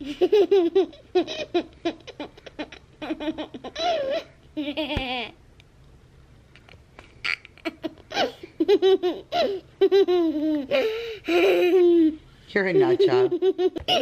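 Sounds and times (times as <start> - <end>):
boy laughing hard: 0.0 - 5.4, 7.2 - 12.2, 12.8 - 14.0.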